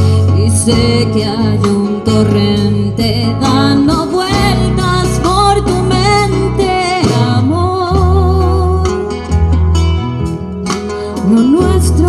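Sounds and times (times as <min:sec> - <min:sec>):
woman singing with vibrato: 0:00.0 - 0:09.2, 0:11.2 - 0:12.0
live band playing: 0:00.0 - 0:12.0.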